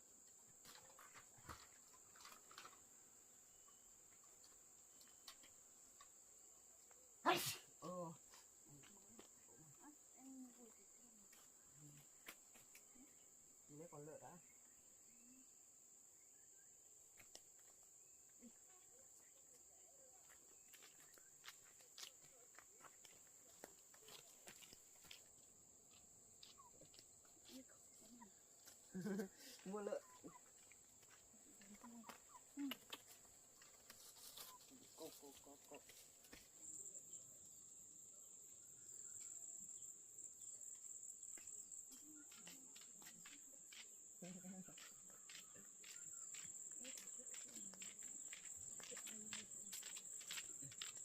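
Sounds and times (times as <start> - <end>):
faint crickets drone: 0.0 - 51.0
insects chirring: 0.0 - 51.0.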